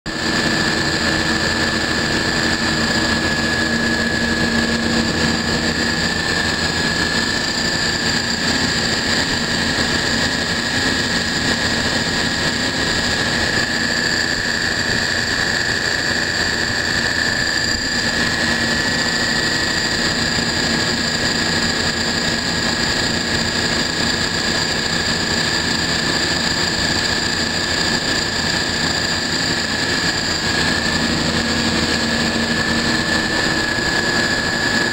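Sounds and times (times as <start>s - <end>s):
condenser fans running: 0.1s - 34.9s
refrigeration compressors humming: 0.1s - 34.9s.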